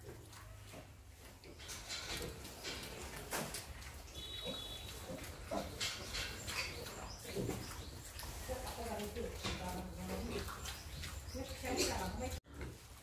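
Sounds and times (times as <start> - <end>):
pigs grunting: 1.8 - 13.0.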